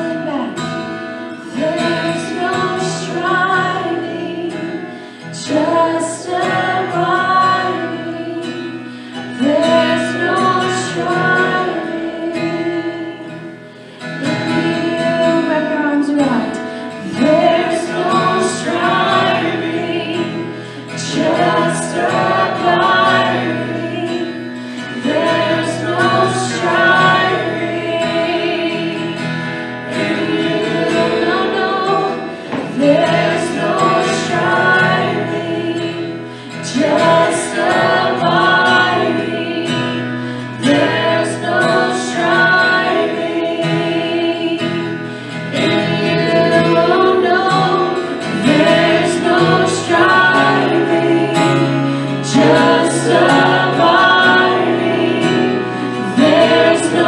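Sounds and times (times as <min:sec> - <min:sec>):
woman singing worship song: 0:00.0 - 0:57.0.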